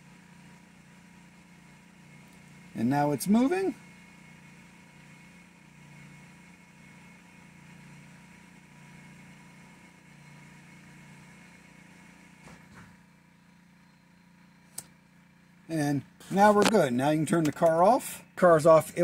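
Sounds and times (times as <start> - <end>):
electric motor hum: 0.0 - 19.0.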